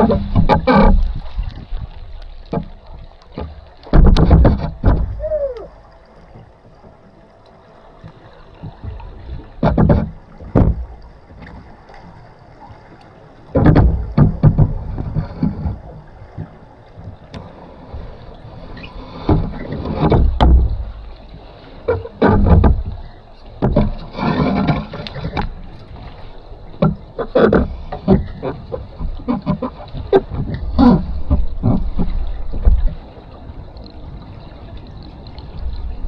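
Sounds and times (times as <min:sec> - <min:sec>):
water sloshing and bubbling: 0:00.0 - 0:36.0.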